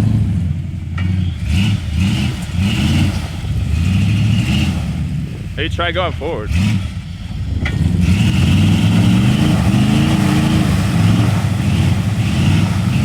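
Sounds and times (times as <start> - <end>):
vehicle engine running hard: 0.0 - 13.0.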